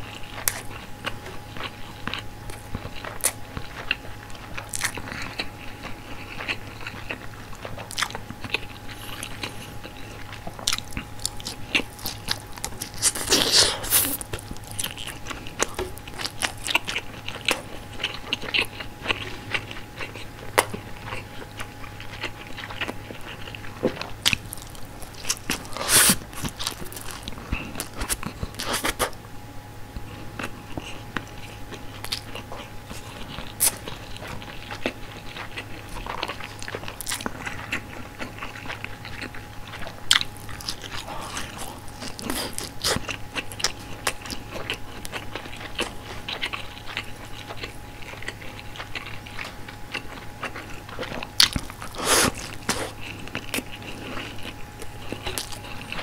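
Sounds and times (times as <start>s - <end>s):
crunchy bites: 0.0s - 29.2s, 30.4s - 56.0s
wet chewing: 0.0s - 29.2s, 30.0s - 56.0s
faint steady hum: 0.0s - 56.0s.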